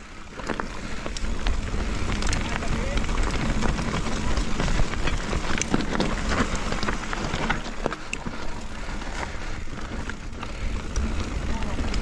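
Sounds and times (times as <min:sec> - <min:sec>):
bike rattling over roots: 0:00.0 - 0:12.0
bike tyres rumbling on trail: 0:00.0 - 0:12.0.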